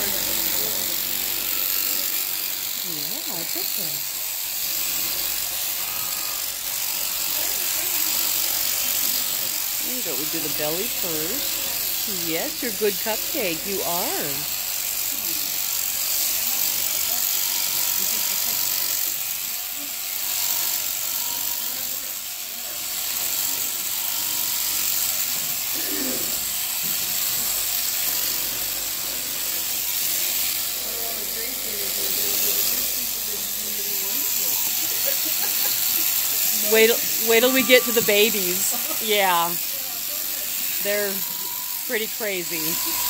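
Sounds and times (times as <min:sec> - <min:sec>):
faint voices: 0:00.0 - 0:24.5, 0:25.2 - 0:26.8, 0:29.1 - 0:43.0
electric shearing machine whirring: 0:00.0 - 0:43.0.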